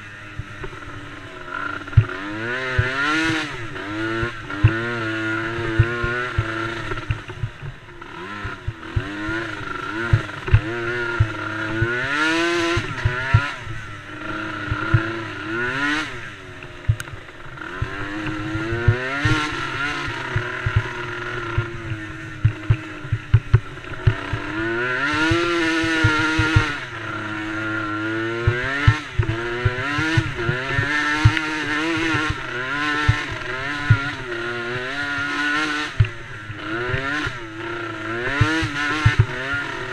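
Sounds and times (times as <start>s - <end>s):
atv engines revving: 0.0s - 39.9s.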